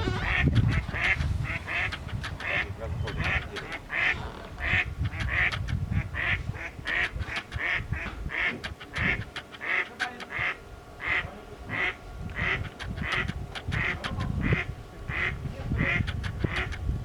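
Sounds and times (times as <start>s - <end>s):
duck quacking: 0.0s - 16.8s.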